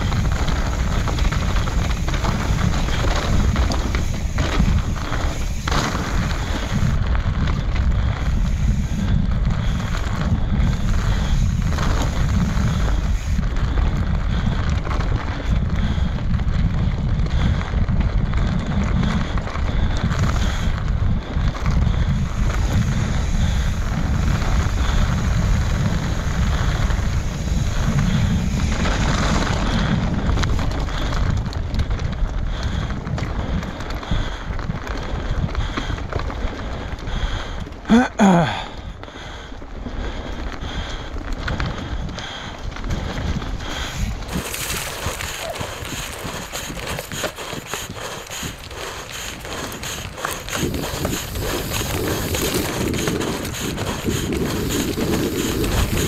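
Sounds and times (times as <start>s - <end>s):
wind buffeting microphone: 0.0s - 37.9s, 38.5s - 56.0s
bike clicks and rattles: 0.0s - 56.0s.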